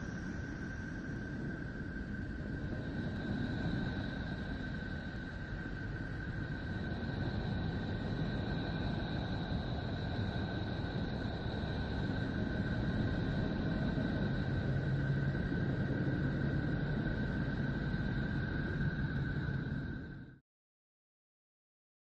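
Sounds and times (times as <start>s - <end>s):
low rumbling drone: 0.0s - 20.4s.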